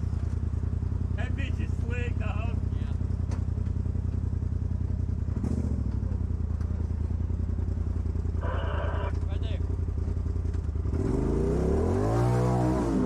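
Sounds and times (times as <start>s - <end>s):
vehicle engine idling: 0.0s - 11.1s.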